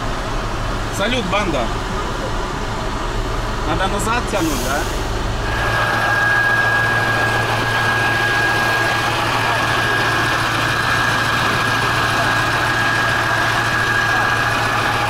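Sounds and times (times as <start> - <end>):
diesel truck engine idling: 0.0 - 15.0
high whine: 0.0 - 15.0.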